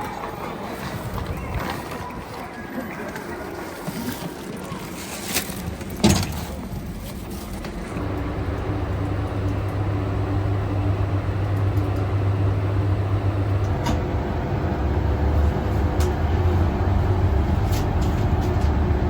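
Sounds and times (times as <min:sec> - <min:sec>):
locomotive low hum: 0:00.0 - 0:19.0.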